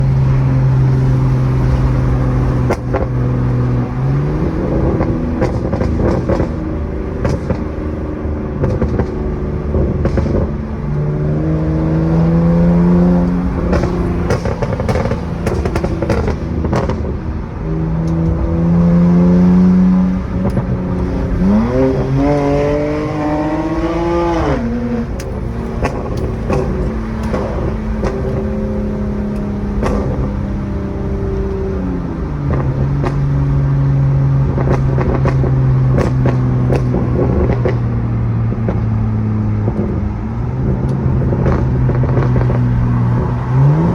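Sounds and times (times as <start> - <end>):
car engine revving: 0.0 - 43.9
exhaust pops and crackles: 0.0 - 43.9.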